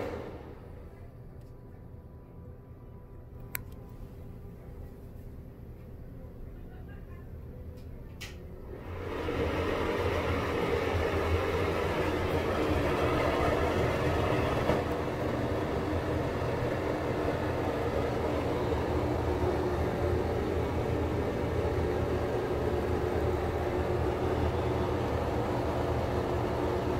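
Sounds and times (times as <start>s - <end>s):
exhaust fan motor hum: 0.0s - 26.9s.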